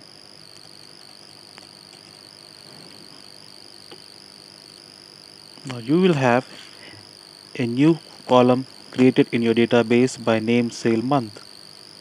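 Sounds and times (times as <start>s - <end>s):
high-pitched whine: 0.0s - 12.0s
low background hiss: 0.0s - 12.0s.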